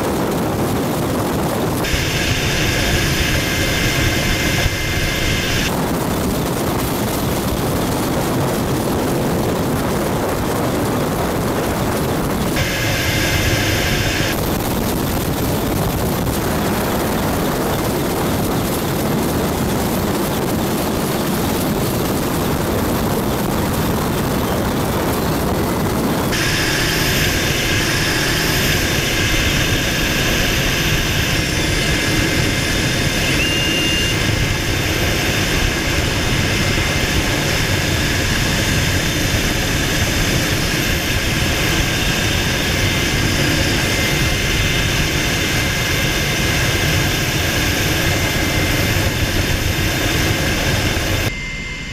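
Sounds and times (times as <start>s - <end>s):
helicopter engines and rotor: 0.0s - 51.9s.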